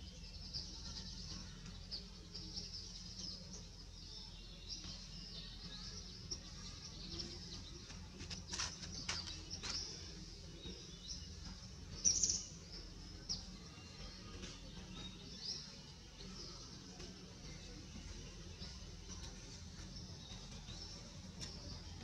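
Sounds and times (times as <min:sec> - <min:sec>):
low steady background hum: 0:00.0 - 0:22.0
small birds chirping: 0:00.0 - 0:22.0.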